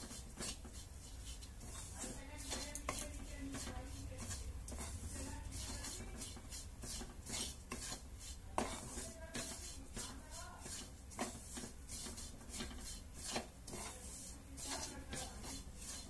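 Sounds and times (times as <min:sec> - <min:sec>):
wooden spatula scraping pan: 0:00.0 - 0:16.0
spatula knocking on pan: 0:01.6 - 0:16.0.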